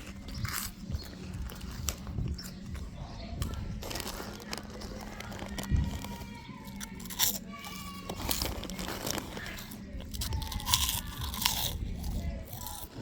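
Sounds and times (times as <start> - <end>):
crisps being chewed: 0.0 - 13.0.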